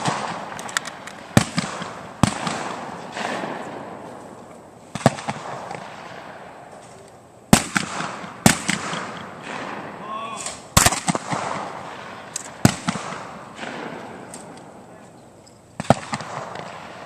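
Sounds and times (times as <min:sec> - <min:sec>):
shotgun shots echoing: 0:00.0 - 0:06.7, 0:07.5 - 0:14.9, 0:15.8 - 0:17.0.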